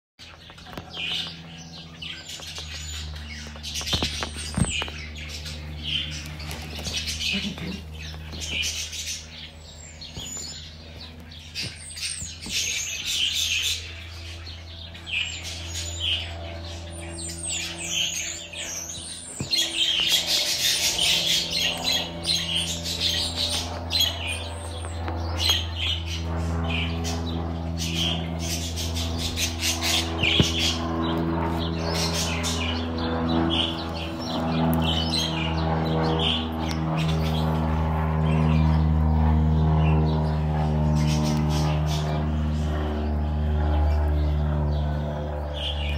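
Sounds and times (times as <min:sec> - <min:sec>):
steady low hum: 0:00.2 - 0:45.9
budgerigars chattering: 0:00.4 - 0:37.6.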